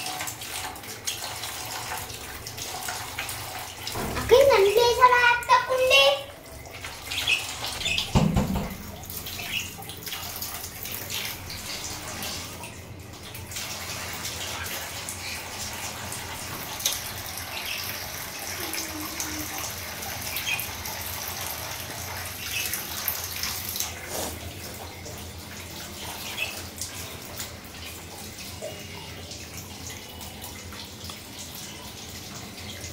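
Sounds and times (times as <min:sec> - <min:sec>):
running splashing water: 0:00.0 - 0:32.9.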